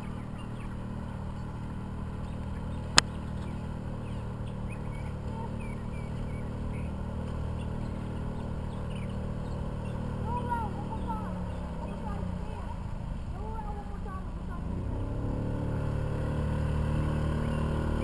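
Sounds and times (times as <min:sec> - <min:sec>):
outboard motor idling: 0:00.0 - 0:18.0.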